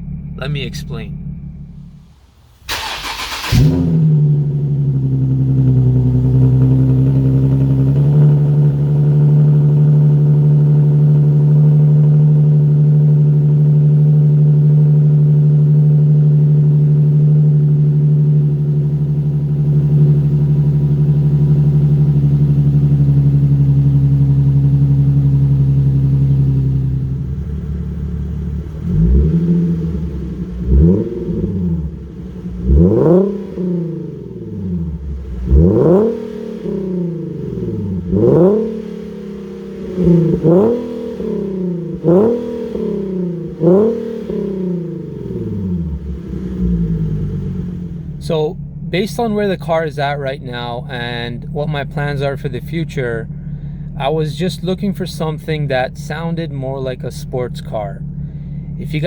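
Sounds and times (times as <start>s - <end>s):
loud car engine revving: 0.0s - 59.0s.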